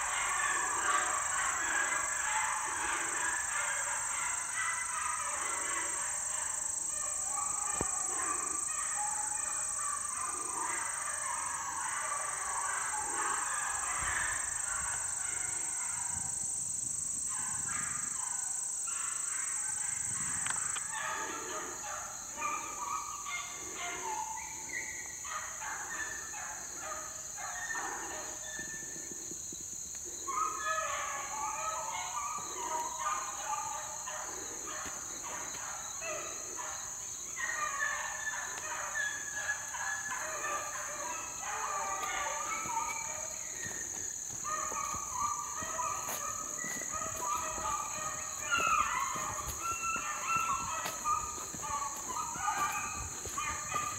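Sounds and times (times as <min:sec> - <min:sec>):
dogs baying: 0:00.0 - 0:16.4, 0:17.2 - 0:53.9
insects droning: 0:00.0 - 0:53.9.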